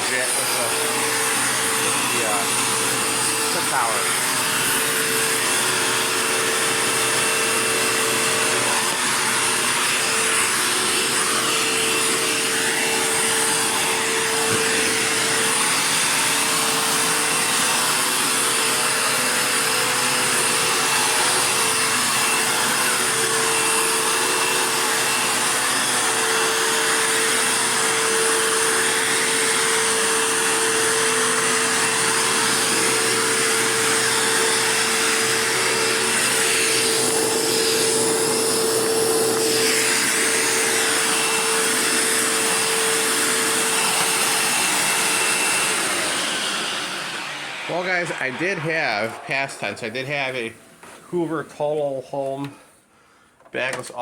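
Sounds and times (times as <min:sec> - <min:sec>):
vacuum cleaner running: 0:00.0 - 0:52.8.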